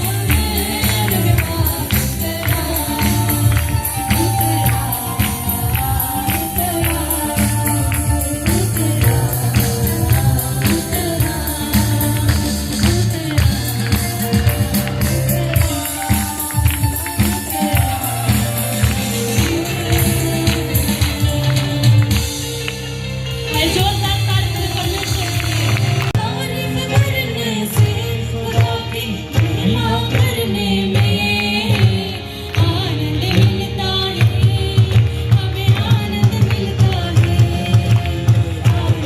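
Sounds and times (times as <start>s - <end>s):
band with strong bass: 0.0s - 39.0s.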